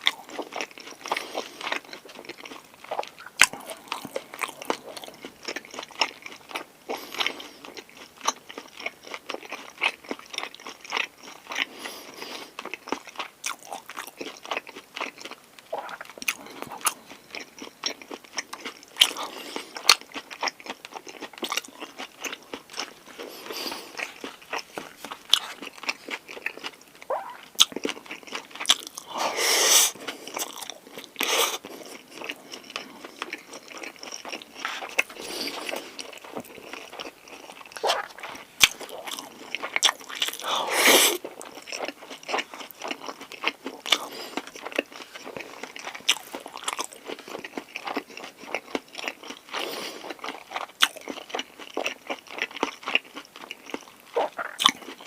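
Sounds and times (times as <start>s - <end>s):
person chewing and biting food: 0.0s - 55.0s.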